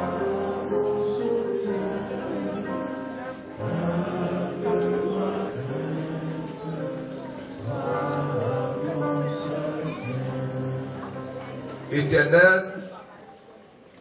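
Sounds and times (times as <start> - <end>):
slow music of long held chords: 0.0 - 12.2.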